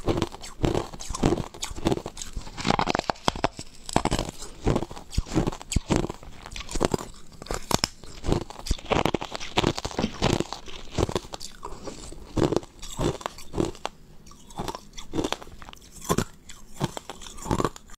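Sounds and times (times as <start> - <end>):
ice crunching being chewed: 0.0 - 18.0.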